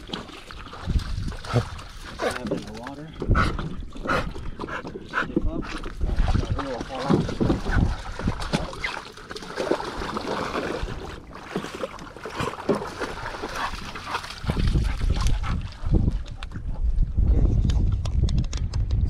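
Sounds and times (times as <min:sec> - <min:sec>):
splashing in shallow water: 0:00.0 - 0:17.0.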